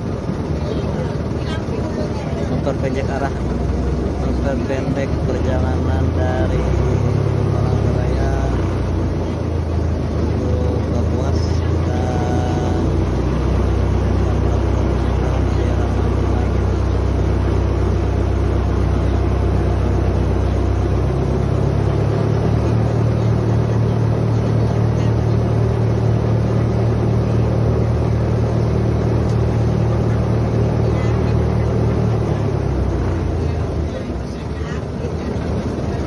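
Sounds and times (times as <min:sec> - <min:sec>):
ferry engine running: 0:00.0 - 0:36.0.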